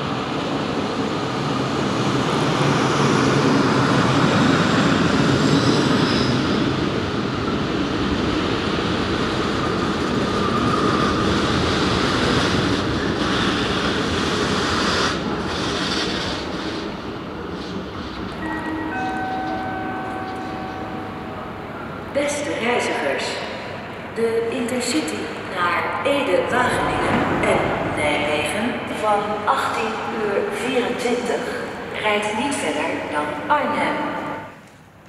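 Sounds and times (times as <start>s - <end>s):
train wheels rumbling on rails: 0.0s - 24.2s, 25.0s - 33.3s.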